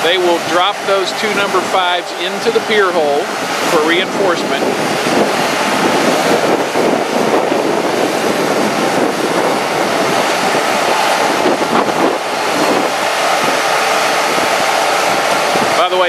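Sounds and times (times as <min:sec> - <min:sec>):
concrete mixer truck running: 0:00.0 - 0:16.0.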